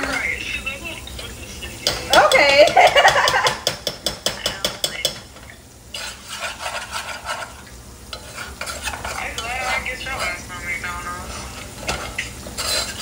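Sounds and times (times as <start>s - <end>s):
spoon stirring in saucepan: 0.0s - 13.0s.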